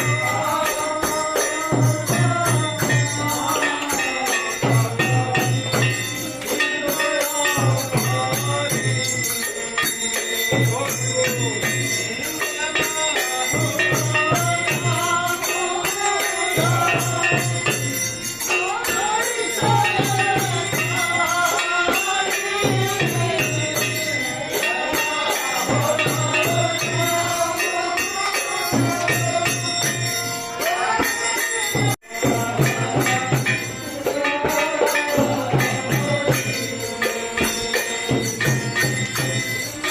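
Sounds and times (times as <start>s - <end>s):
jingling bells: 0.0s - 39.9s
song with sung melody: 0.0s - 39.9s.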